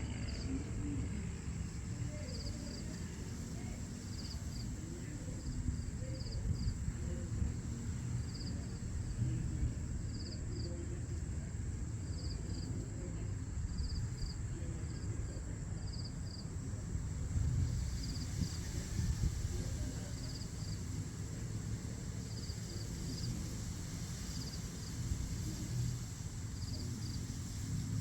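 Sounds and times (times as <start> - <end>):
insect chirping: 1.3 - 11.3, 11.9 - 27.9.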